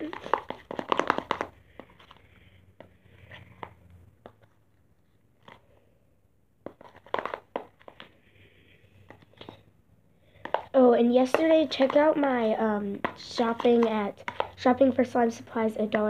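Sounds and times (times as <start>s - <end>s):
slime squelching: 0.0s - 5.8s, 6.6s - 16.0s.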